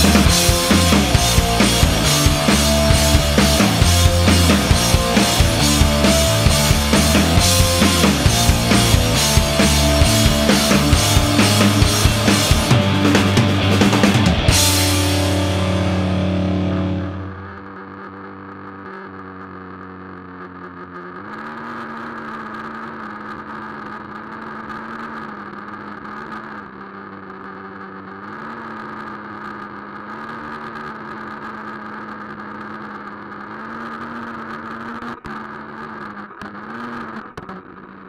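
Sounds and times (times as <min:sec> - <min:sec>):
rc truck nitro engine running: 0:00.0 - 0:14.7, 0:15.7 - 0:38.0.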